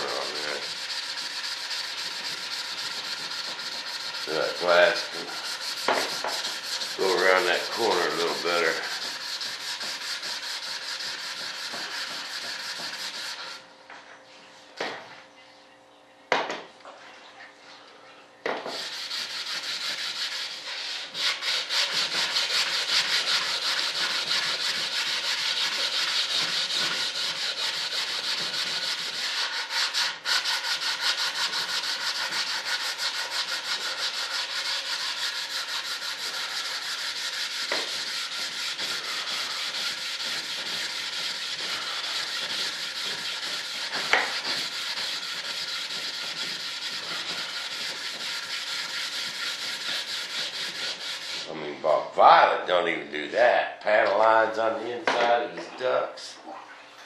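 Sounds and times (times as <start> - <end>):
sandpaper rubbing back and forth: 0.0 - 13.6, 18.7 - 51.7.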